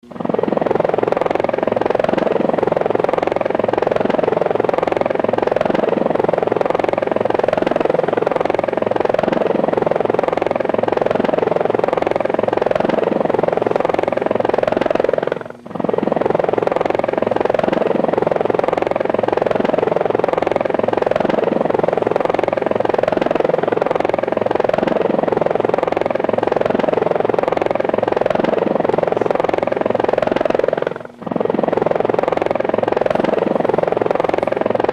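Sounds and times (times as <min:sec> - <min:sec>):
helicopter rotor chop: 0:00.0 - 0:34.9.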